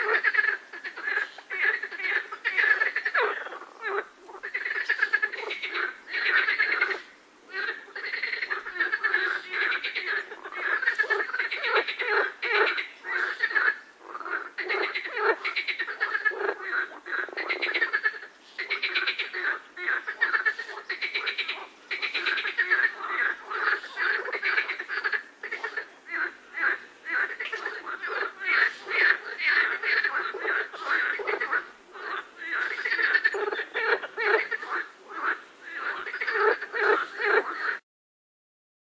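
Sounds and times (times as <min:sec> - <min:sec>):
frogs croaking: 0:00.0 - 0:37.8.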